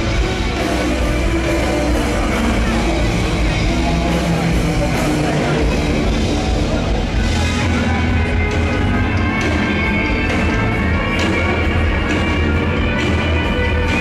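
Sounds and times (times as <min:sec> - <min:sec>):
loud rock music with singing: 0:00.0 - 0:14.0.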